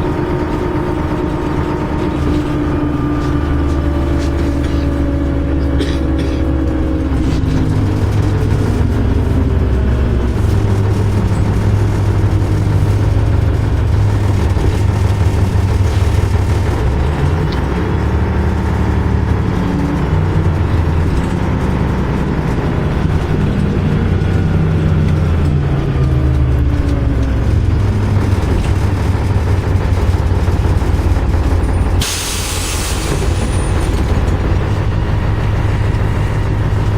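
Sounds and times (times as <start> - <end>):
bus diesel engine driving: 0.0 - 36.9.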